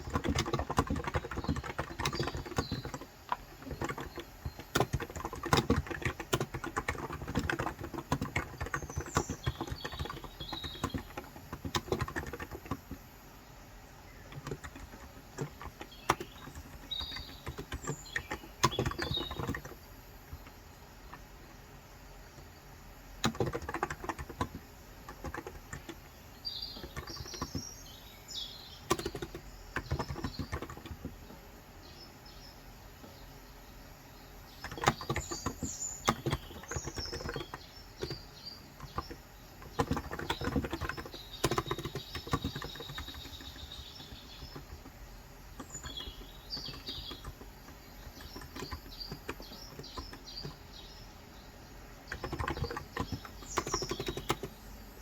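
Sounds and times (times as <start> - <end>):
typing on keyboard: 0.0 - 13.2, 14.1 - 21.6, 23.1 - 31.4, 34.5 - 51.2, 51.8 - 55.0
small birds chirping: 0.0 - 55.0.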